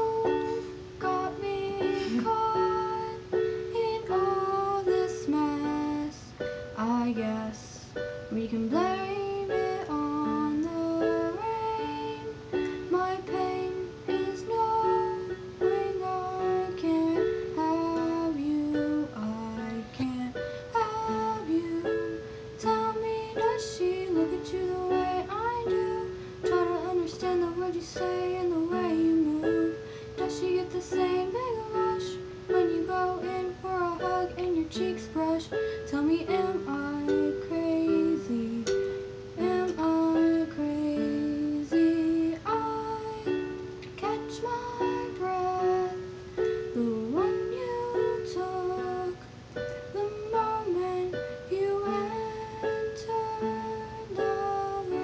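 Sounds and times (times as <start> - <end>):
girl singing: 0.0 - 55.0.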